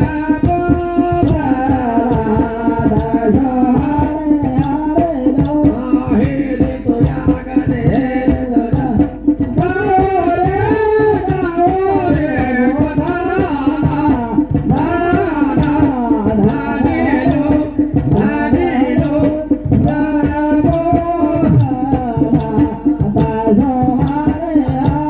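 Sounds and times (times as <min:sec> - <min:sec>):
dhol drum strokes: 0:00.0 - 0:25.0
person singing: 0:00.0 - 0:25.0.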